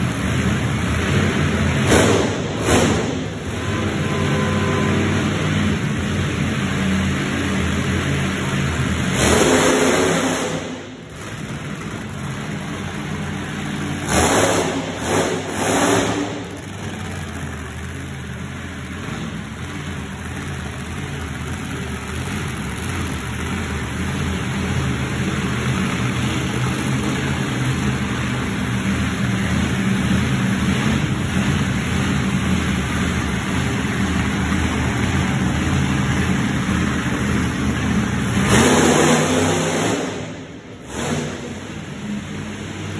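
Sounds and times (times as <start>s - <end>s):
monster truck engines revving: 0.0s - 42.9s.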